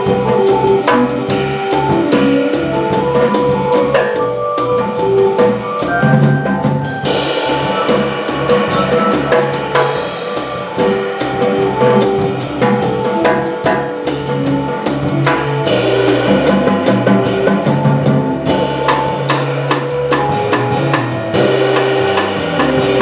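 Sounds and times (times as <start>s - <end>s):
drum kit with cymbals: 0.0s - 23.0s
organ notes: 0.0s - 23.0s.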